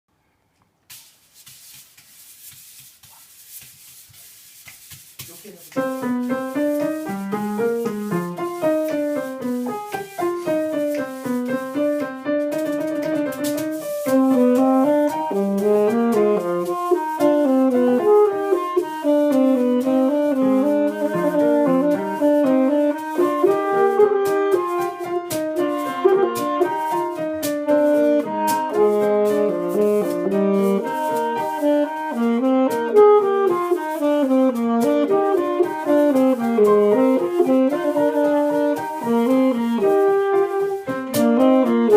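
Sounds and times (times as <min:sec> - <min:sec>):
piano music: 0:05.7 - 0:41.9.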